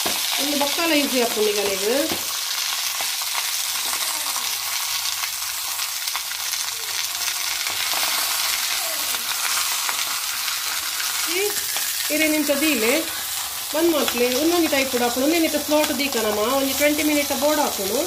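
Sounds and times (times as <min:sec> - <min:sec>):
fish sizzling on griddle: 0:00.0 - 0:18.0.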